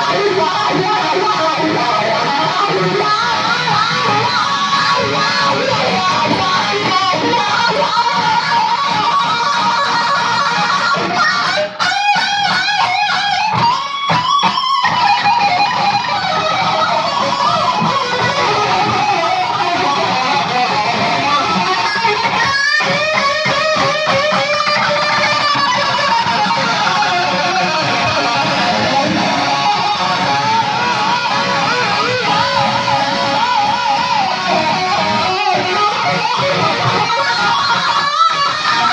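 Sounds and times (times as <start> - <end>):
electric guitar with wah pedal: 0.0 - 38.9.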